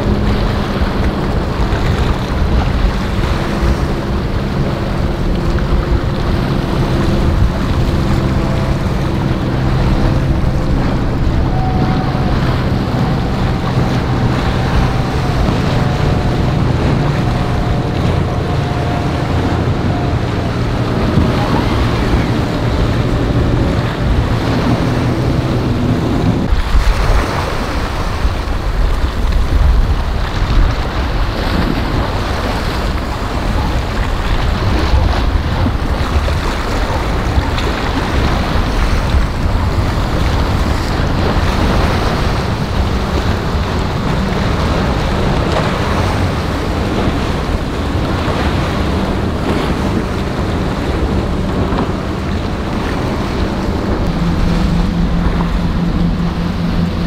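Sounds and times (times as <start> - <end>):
boat engines running: 0.0 - 57.0
waves breaking: 0.0 - 57.0
wind buffeting microphone: 0.0 - 57.0.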